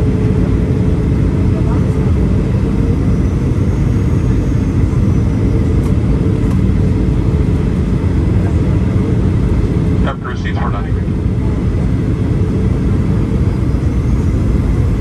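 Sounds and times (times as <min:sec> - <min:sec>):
jet engine and rushing air in cabin: 0:00.0 - 0:15.0
steady low hum: 0:00.0 - 0:15.0.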